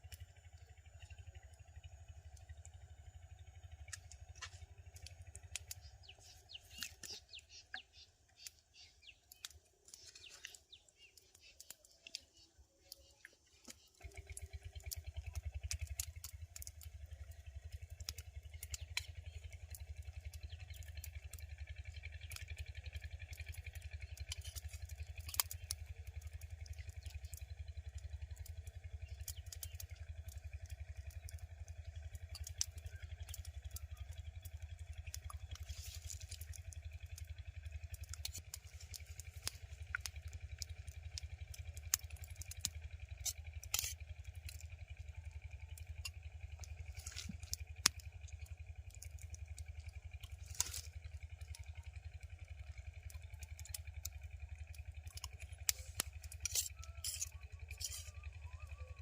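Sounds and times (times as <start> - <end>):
sharp crackles and clicks: 0.0 - 58.9.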